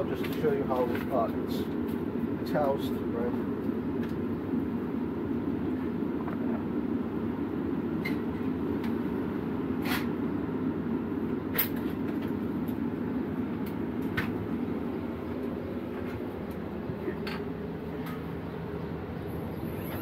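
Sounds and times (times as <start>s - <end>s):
ambulance engine humming: 3.1s - 20.0s.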